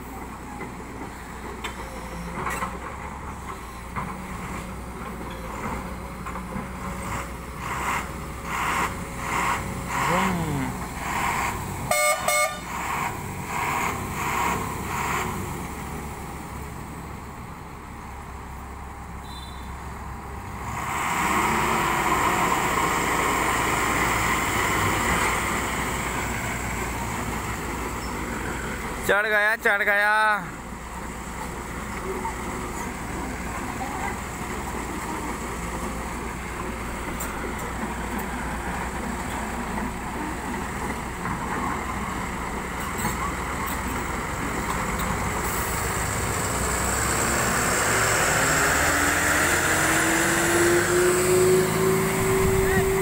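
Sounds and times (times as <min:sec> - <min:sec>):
diesel engines labouring: 0:00.0 - 0:53.0.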